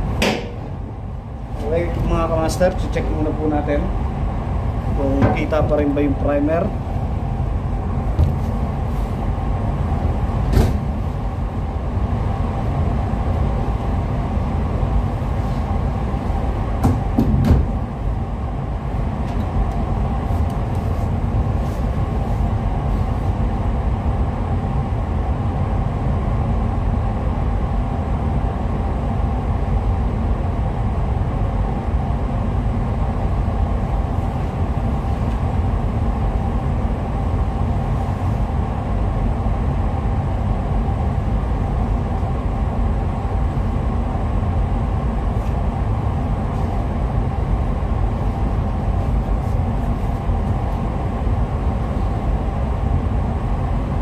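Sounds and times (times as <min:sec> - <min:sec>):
spray booth air system drone: 0:00.0 - 0:54.0.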